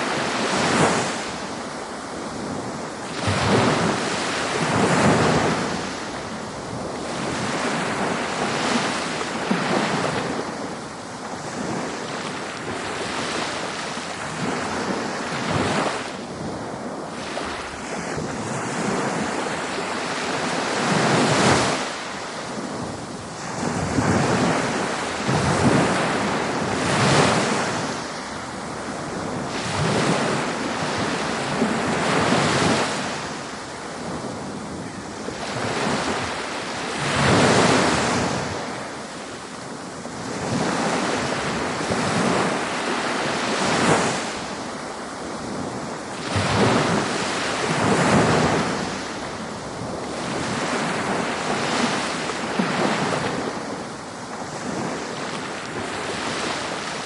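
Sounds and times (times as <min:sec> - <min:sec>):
ocean waves breaking: 0:00.0 - 0:57.0
wind on microphone: 0:00.0 - 0:57.0.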